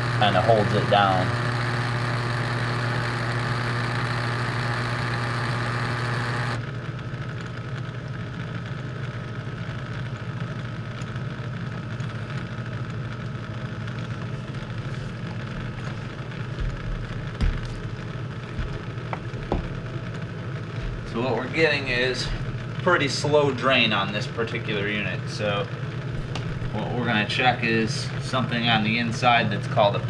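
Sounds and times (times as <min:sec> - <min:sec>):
dishwasher motor hum: 0:00.0 - 0:30.0.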